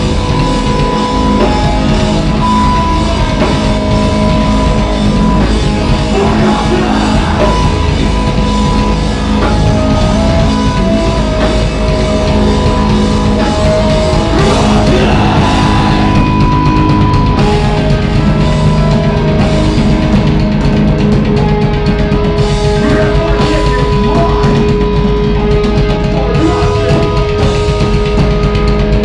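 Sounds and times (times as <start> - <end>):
distorted electric guitars: 0.0 - 29.0
pounding drums: 0.0 - 29.0.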